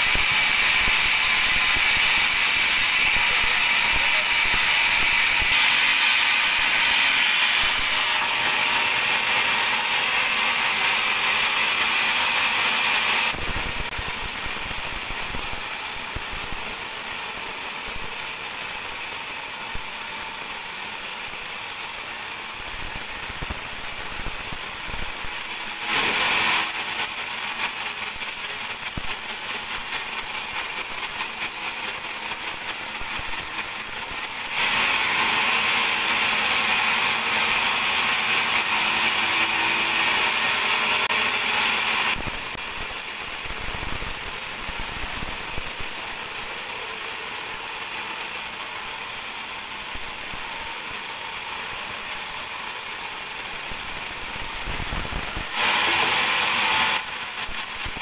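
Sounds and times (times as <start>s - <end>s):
band sawmill running: 0.0s - 58.0s
saw blade cutting log: 0.0s - 58.0s.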